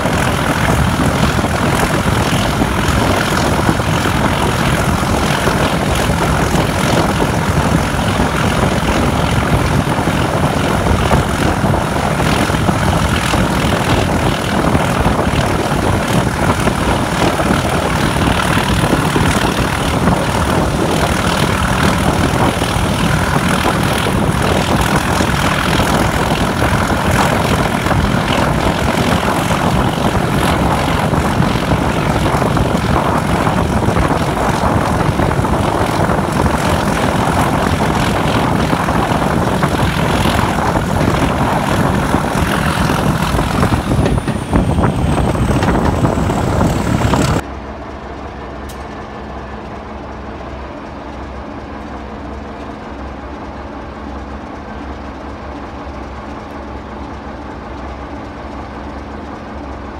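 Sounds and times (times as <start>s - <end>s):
diesel train running at speed: 0.0s - 59.9s.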